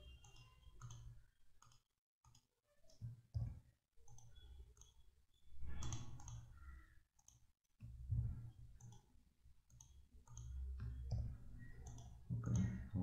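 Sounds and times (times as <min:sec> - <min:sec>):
computer mouse clicks: 0:00.2 - 0:05.0, 0:05.7 - 0:08.0, 0:08.8 - 0:09.1, 0:09.7 - 0:12.9.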